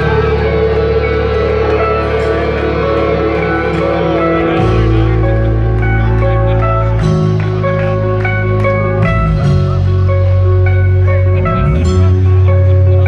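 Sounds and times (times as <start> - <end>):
rock band playing instrumental: 0.0 - 13.0.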